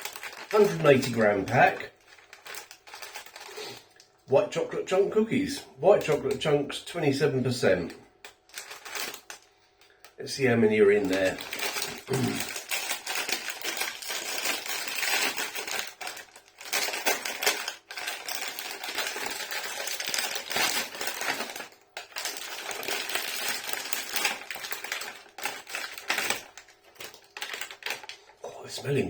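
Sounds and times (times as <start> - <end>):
plastic packaging crinkling: 0.0 - 29.0.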